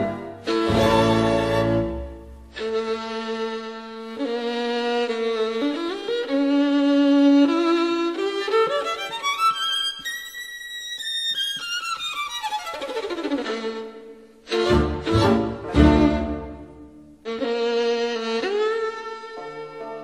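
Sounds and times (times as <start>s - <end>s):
solo violin melody: 0.0s - 20.0s.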